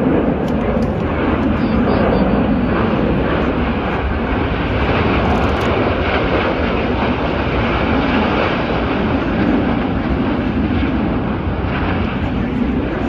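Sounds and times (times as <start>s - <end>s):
aircraft engine rushing: 0.0s - 13.0s.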